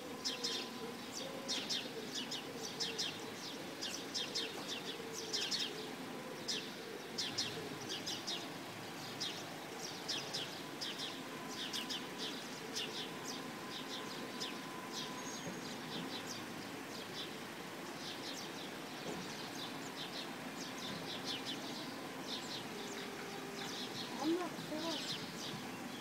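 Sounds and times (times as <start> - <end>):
low steady background noise: 0.0 - 26.0
small birds chirping: 0.2 - 26.0.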